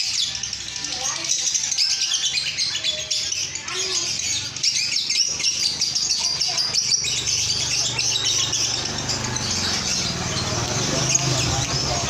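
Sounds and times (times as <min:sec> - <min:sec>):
lovebird chattering: 0:00.0 - 0:12.0.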